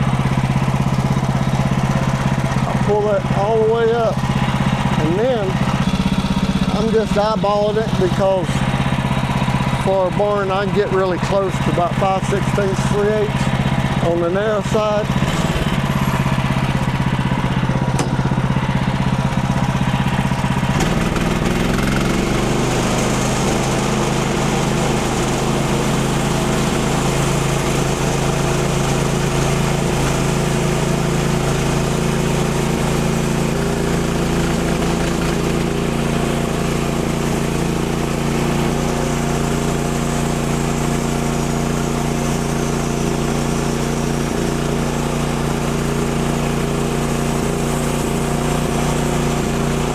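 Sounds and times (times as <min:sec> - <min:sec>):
sawmill gas engine running: 0:00.0 - 0:49.9.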